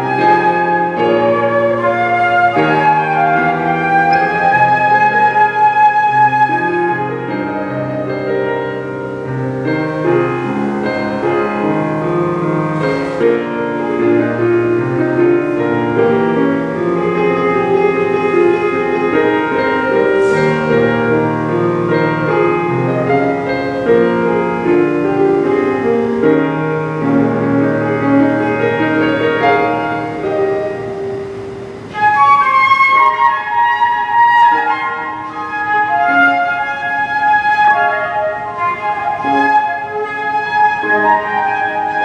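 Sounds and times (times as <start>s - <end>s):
flute melody: 0.0s - 42.0s
piano chords: 0.0s - 42.0s.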